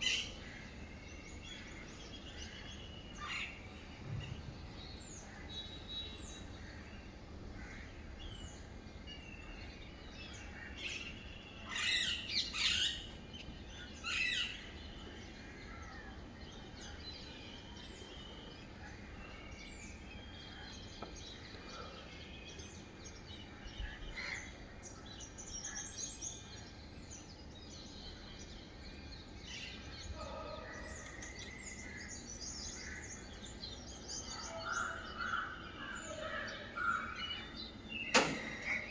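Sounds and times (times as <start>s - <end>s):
birds chirping and calling: 0.0s - 38.9s
low background noise: 0.0s - 38.9s.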